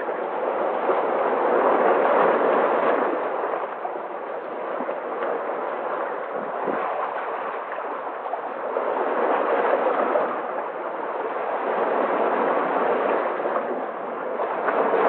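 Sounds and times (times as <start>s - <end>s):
sea waves surf: 0.0s - 15.0s.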